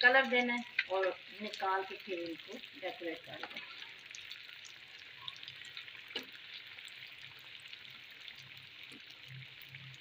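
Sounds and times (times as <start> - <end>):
deep-frying oil sizzling: 0.0 - 10.0.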